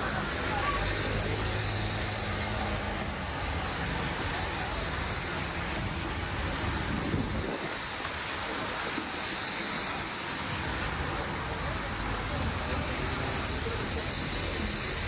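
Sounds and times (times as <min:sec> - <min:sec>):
street traffic noise: 0:00.0 - 0:15.0
vehicle engine rumble: 0:00.0 - 0:15.0.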